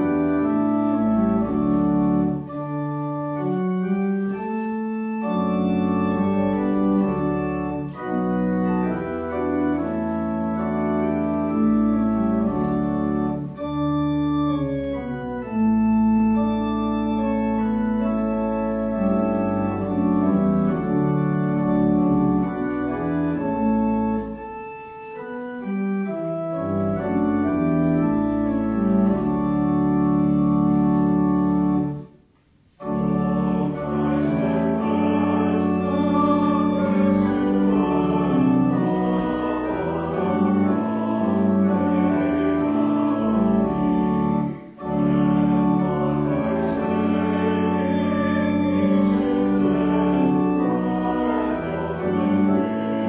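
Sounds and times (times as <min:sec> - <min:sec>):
pipe organ playing hymn chords: 0:00.0 - 0:53.0.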